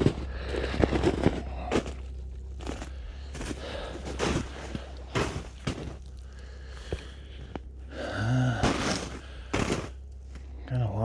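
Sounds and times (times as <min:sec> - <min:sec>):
footsteps in snow: 0:00.0 - 0:07.5, 0:08.1 - 0:10.5.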